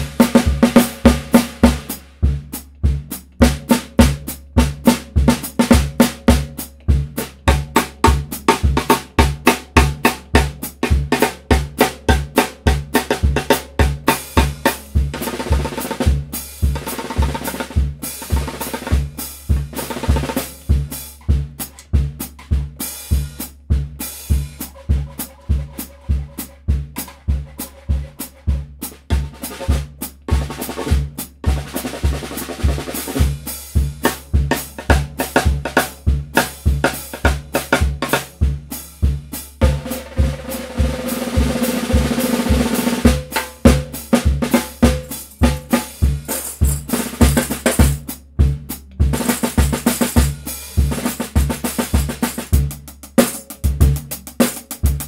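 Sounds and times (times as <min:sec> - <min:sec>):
snare drum played with sticks: 0:00.0 - 0:55.0.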